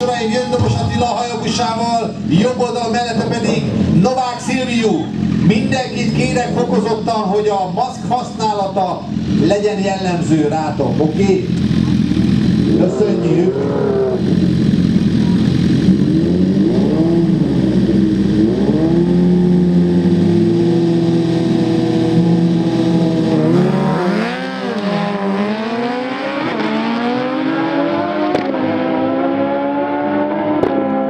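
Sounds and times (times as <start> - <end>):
motorcycles accelerating hard: 0.0 - 31.0.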